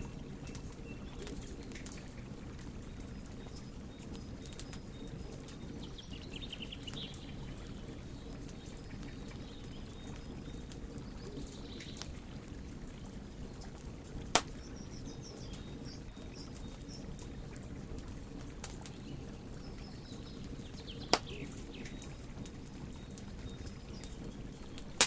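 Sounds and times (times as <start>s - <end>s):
wood fire burning and crackling: 0.0s - 25.0s.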